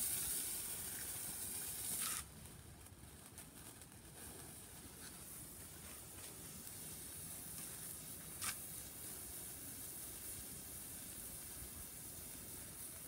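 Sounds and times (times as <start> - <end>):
firework crackles: 0.0 - 13.0
fireworks hissing: 0.0 - 13.0
sharp firework crack: 0.0 - 13.0.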